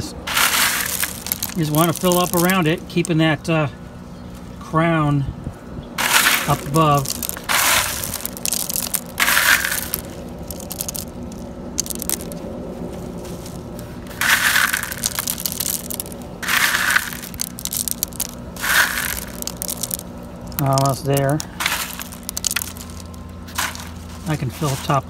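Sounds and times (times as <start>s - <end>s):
clay pebbles crunching and rattling: 0.0s - 3.4s, 6.0s - 25.0s.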